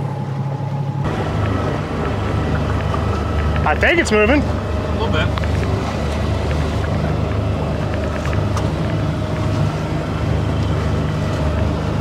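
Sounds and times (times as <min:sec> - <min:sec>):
small boat engine humming: 0:00.0 - 0:12.0.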